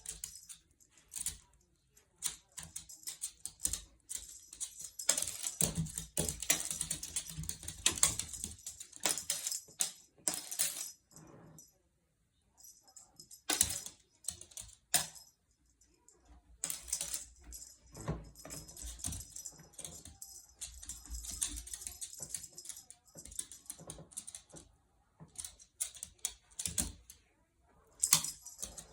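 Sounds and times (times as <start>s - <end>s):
cat toy clicks and rustles: 0.0s - 11.0s, 12.8s - 15.3s, 16.2s - 27.2s, 27.9s - 28.9s.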